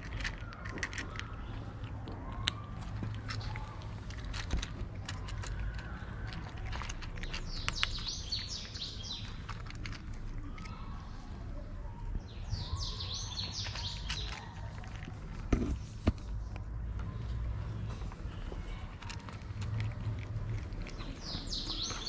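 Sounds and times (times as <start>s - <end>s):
cats crunching dry kibble: 0.0s - 22.0s
small birds chirping: 0.0s - 22.0s.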